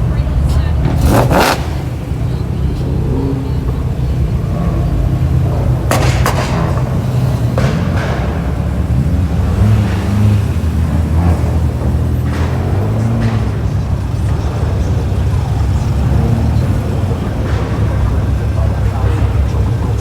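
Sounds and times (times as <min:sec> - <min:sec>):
car exhaust rumbling: 0:00.0 - 0:20.0
sharp exhaust pops: 0:00.0 - 0:20.0.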